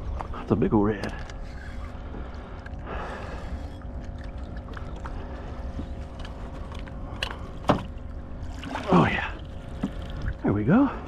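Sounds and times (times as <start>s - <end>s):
faint hum: 0.0s - 11.0s
water around kayak: 0.0s - 11.0s.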